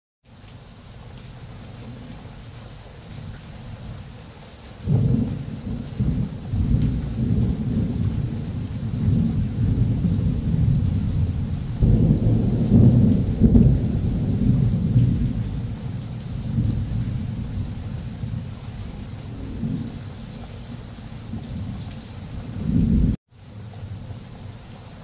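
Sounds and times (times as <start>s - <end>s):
heavy rain hissing: 0.2s - 25.0s.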